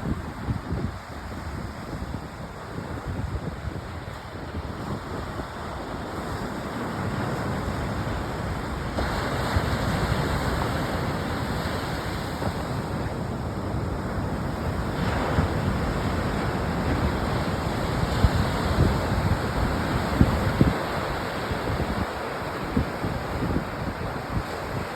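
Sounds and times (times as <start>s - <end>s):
ocean surf washing onto beach: 0.0s - 24.9s
wind buffeting microphone: 0.0s - 24.9s.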